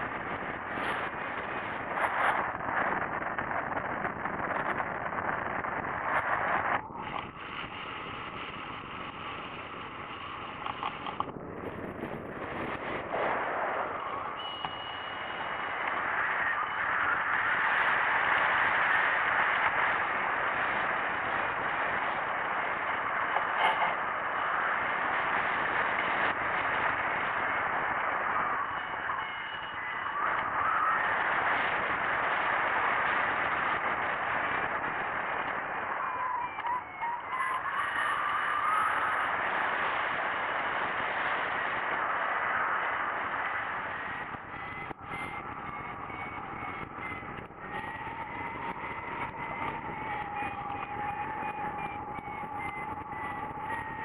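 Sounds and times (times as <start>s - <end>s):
wind rushing over camera: 0.0s - 54.0s.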